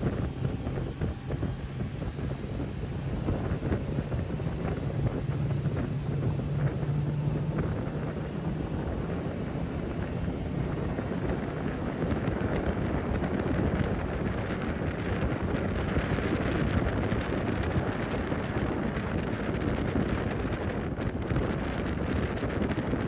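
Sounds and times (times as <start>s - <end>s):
boat motor humming: 0.0s - 23.0s
wind buffeting microphone: 0.0s - 23.0s.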